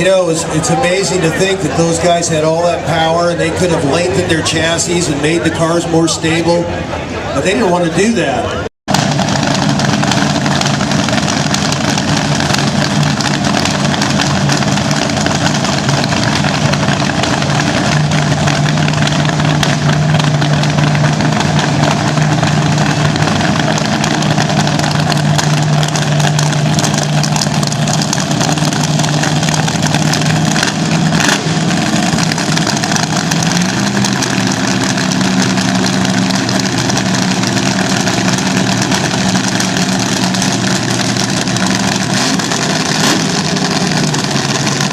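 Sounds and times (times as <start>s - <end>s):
racing car engine fast idle: 8.9s - 44.9s.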